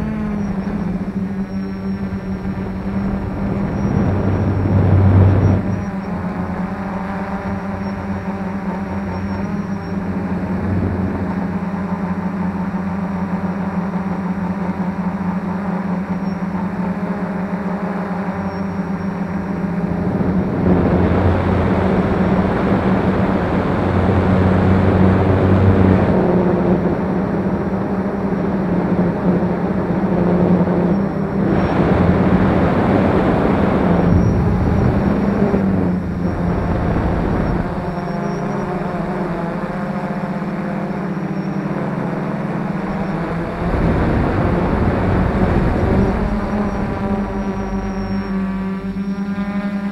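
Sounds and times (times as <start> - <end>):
quadcopter motors humming: 0.0 - 49.9.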